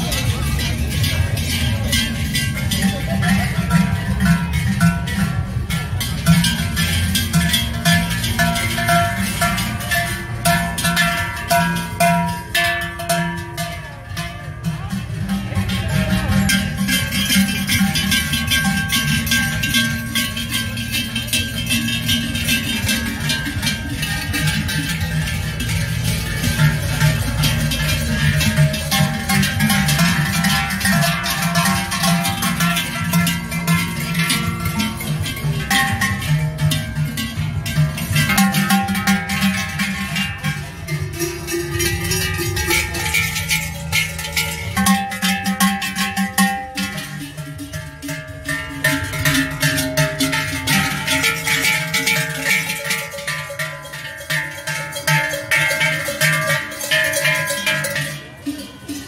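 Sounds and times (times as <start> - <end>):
cowbells clanging: 0.0 - 59.0.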